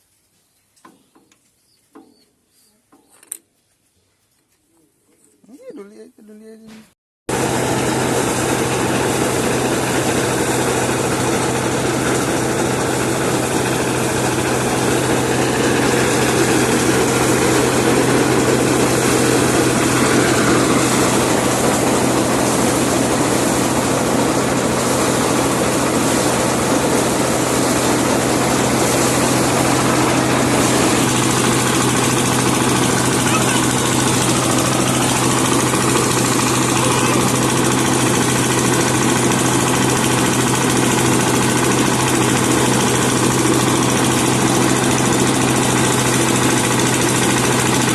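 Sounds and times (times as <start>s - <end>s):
small generator engine running: 7.3s - 47.9s.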